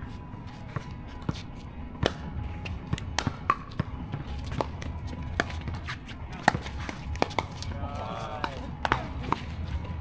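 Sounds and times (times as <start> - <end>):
ball bouncing on hard court: 0.7 - 7.7, 8.4 - 9.5.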